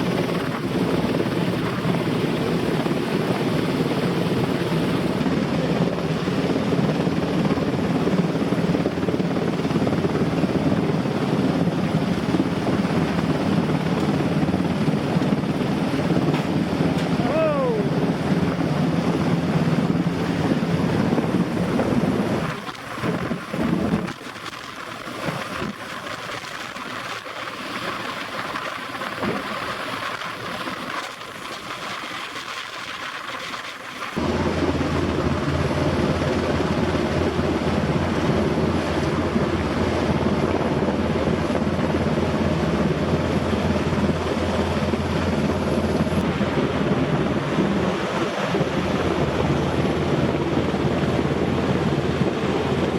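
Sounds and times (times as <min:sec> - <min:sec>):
helicopter rotors and turbines: 0:00.0 - 0:52.9.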